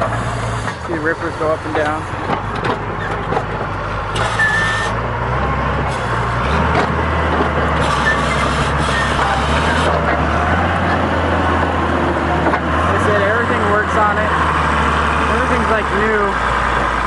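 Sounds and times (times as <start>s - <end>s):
diesel engine low hum: 0.0s - 17.0s.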